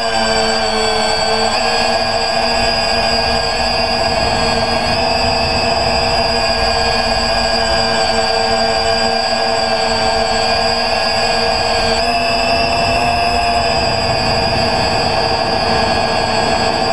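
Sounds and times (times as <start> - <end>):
quadcopter motors whining: 0.0 - 16.9.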